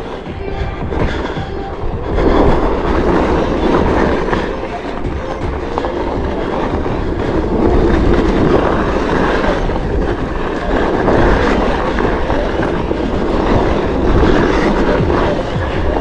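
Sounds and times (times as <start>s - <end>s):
tyre rumbling on dirt trail: 0.0s - 16.0s
wind on microphone: 0.0s - 16.0s.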